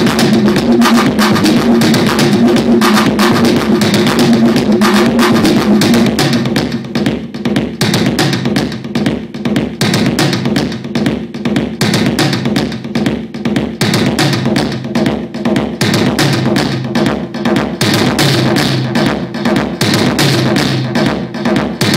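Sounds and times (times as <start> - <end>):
drum machine beat: 0.0 - 21.9.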